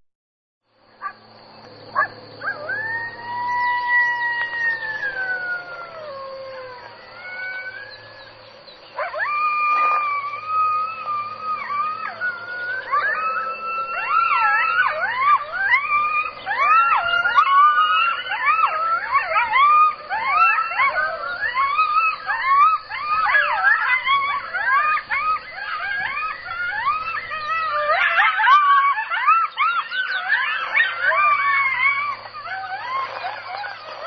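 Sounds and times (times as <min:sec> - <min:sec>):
coyotes howling and yipping: 0:00.8 - 0:34.0.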